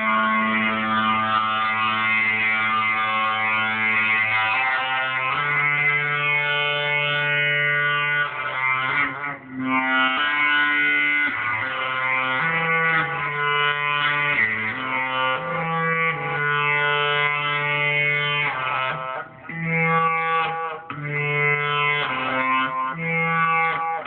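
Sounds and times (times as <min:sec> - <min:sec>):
electric guitar sustained notes: 0:00.0 - 0:24.0.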